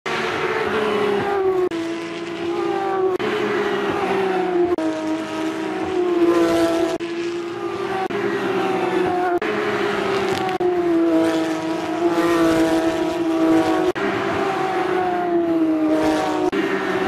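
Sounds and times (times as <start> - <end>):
race car engine at speed: 0.0 - 17.0.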